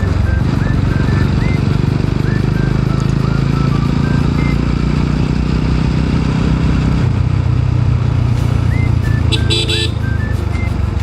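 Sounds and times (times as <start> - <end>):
motorcycle engine while riding: 0.0 - 11.0.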